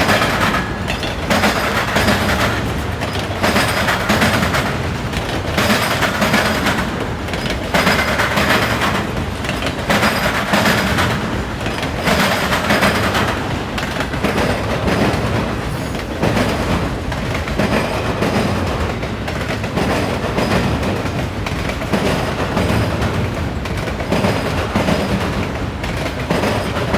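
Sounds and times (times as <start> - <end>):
freight train wheels clattering: 0.0 - 26.9.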